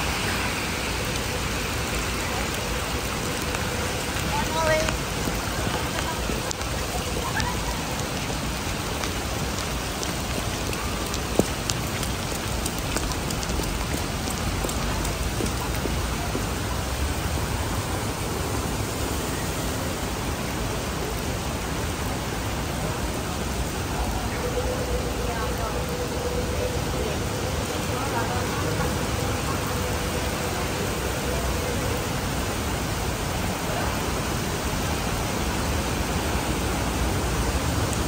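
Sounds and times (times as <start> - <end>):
heavy rain on pavement: 0.0 - 38.0.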